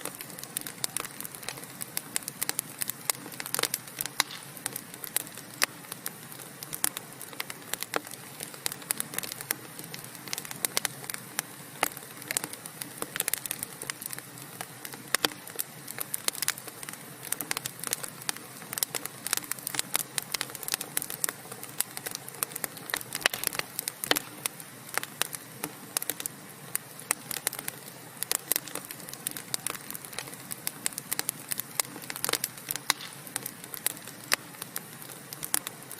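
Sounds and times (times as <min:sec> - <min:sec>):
soft fire hiss: 0:00.0 - 0:35.9
wood fire crackling: 0:00.0 - 0:35.9.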